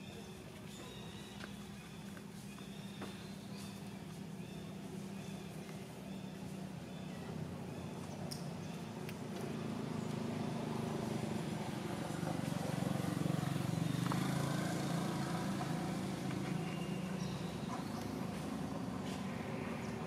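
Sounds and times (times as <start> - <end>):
distant vehicle engine hum: 0.0 - 20.0.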